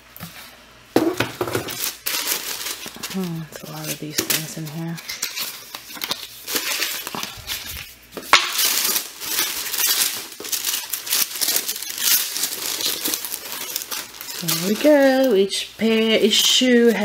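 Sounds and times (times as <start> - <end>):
packing paper rustling and crinkling: 1.2 - 17.0
sharp paper crackle: 1.4 - 17.0.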